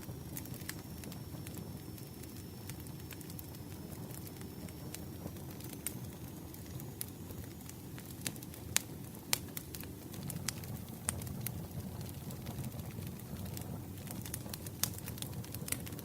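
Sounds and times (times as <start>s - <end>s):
burning wood crackling and popping: 0.0s - 16.0s
campfire flames rumbling: 0.0s - 16.0s.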